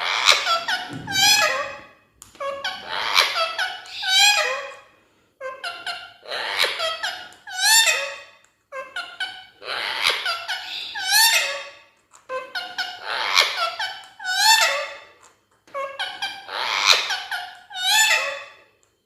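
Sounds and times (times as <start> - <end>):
parrot chattering: 0.0 - 4.8, 5.4 - 15.0, 15.8 - 18.5.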